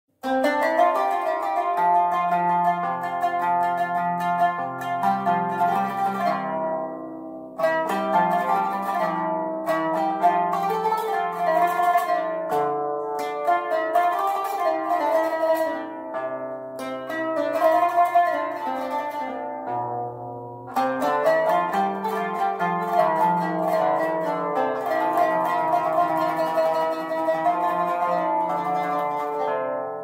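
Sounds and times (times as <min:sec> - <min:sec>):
plucked string music: 0:00.2 - 0:30.0.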